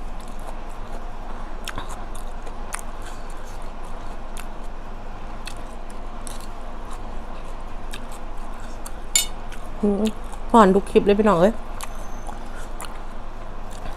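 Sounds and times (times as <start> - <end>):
close chewing with mouth clicks: 0.1 - 4.8, 5.4 - 10.5, 11.8 - 13.9.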